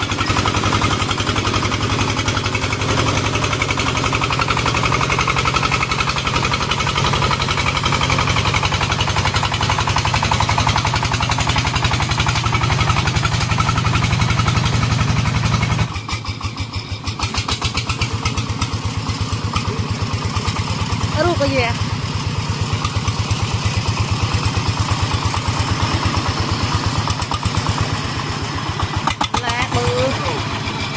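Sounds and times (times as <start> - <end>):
diesel engine chugging: 0.0 - 30.9.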